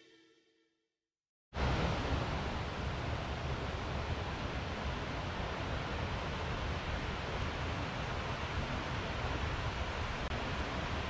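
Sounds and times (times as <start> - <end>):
forest stream rushing: 1.6 - 11.0.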